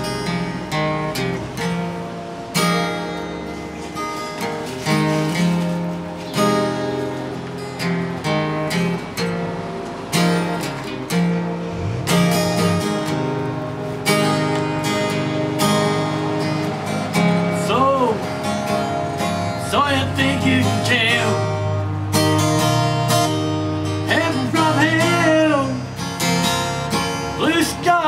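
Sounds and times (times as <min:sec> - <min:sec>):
acoustic guitar strummed: 0:00.0 - 0:28.0.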